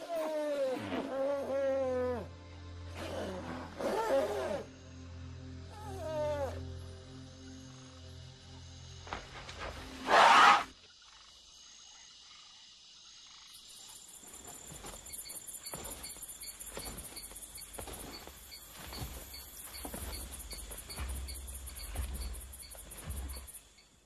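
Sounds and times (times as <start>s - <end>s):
insects chirring: 0.1s - 24.0s.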